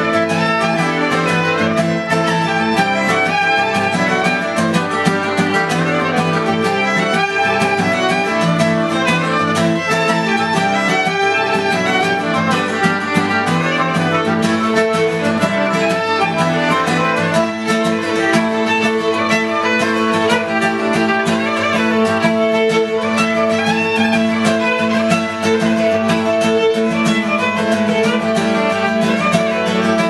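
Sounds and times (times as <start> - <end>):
accordion: 0.0 - 30.0
fiddle playing dance tune: 0.0 - 30.0
strummed acoustic guitar: 0.0 - 30.0.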